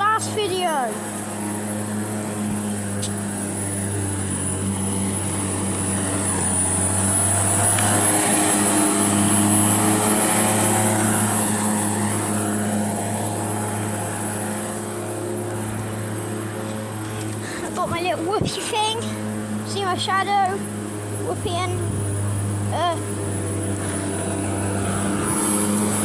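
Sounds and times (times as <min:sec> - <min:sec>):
string trimmer running: 0:00.0 - 0:26.0.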